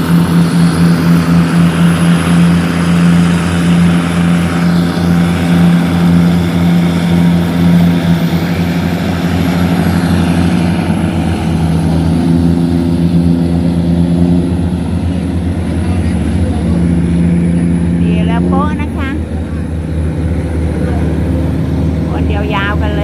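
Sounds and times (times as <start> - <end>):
diesel engine humming: 0.0 - 23.0.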